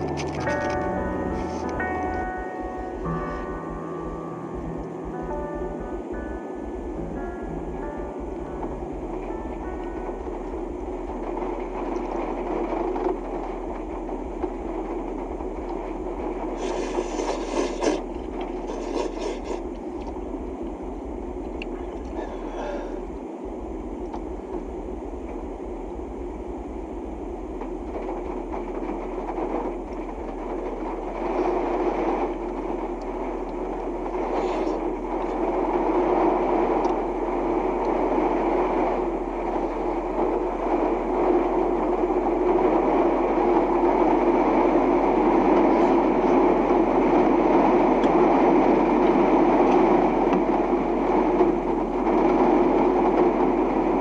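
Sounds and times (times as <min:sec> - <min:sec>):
road and engine noise in cabin: 0:00.0 - 0:54.0.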